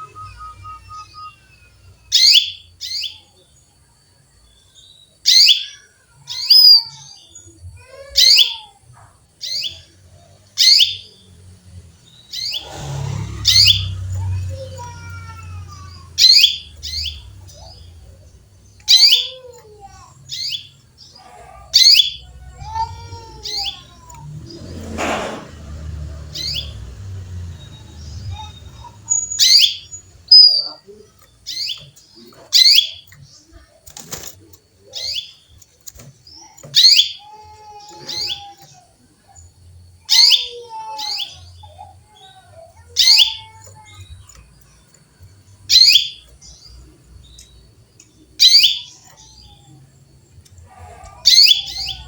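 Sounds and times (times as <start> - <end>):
canary chirping: 0.0 - 3.5, 4.6 - 52.0.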